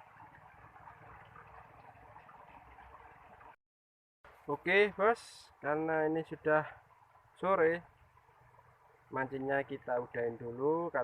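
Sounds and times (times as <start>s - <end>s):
water trickling: 0.0s - 3.6s, 4.3s - 11.0s.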